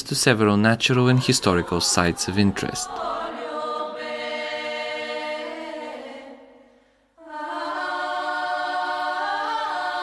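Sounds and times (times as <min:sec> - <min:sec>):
choir singing sustained chords: 0:00.8 - 0:10.0.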